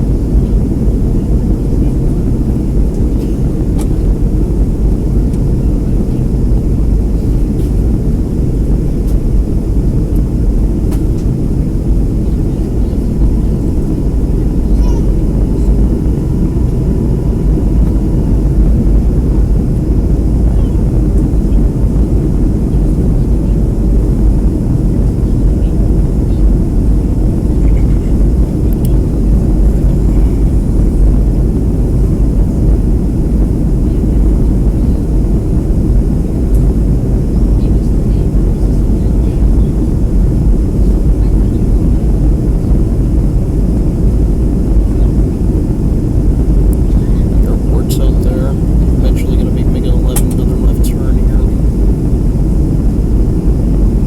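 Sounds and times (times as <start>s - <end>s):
jet airplane cabin rumble: 0.0s - 54.0s.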